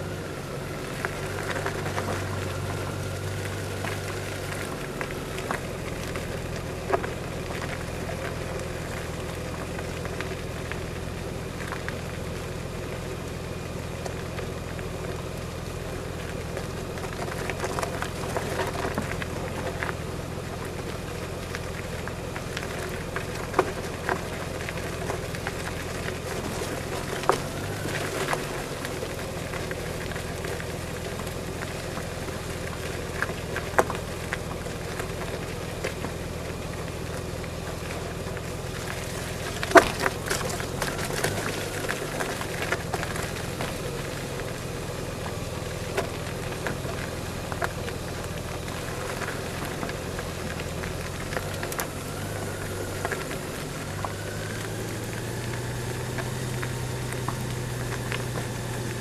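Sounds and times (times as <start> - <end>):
motorcycle engine running: 0.0 - 59.0
tyres crunching over gravel: 0.0 - 59.0.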